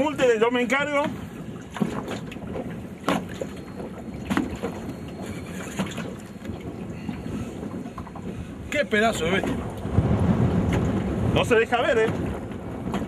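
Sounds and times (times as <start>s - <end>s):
knocks or splashes: 0.0s - 13.0s
water lapping against boat: 0.0s - 13.0s
wind buffeting microphone: 0.0s - 13.0s.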